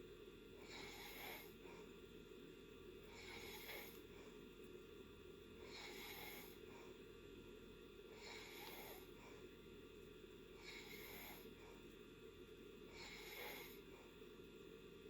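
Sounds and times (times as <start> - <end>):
faint airy snoring: 0.0 - 15.0.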